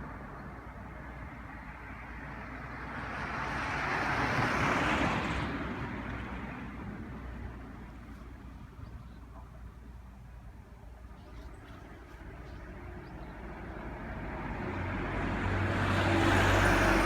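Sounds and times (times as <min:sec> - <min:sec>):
road vehicle passing by: 0:00.0 - 0:09.4, 0:10.9 - 0:17.0.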